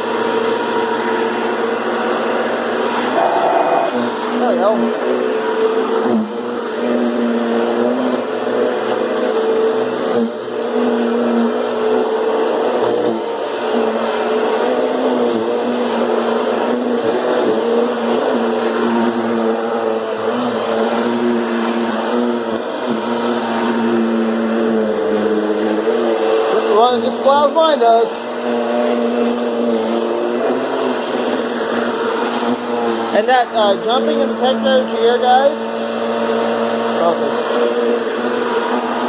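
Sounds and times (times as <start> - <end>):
upright vacuum cleaner running: 0.0 - 39.0.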